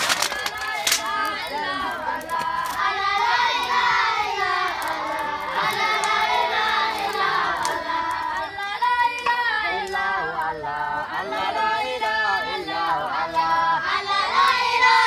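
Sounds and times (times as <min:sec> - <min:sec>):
children singing in chorus: 0:00.5 - 0:10.4, 0:11.0 - 0:15.0.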